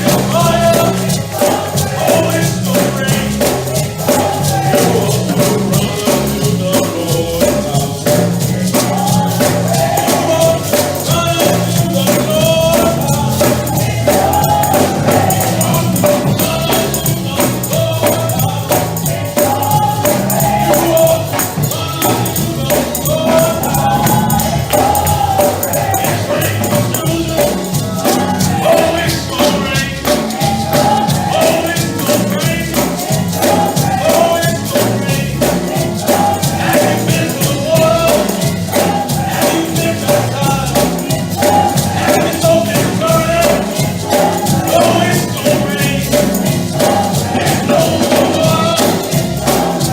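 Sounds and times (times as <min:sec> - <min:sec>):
choir and congregation singing: 0:00.0 - 0:49.9
tambourine and drums beat: 0:00.0 - 0:49.9.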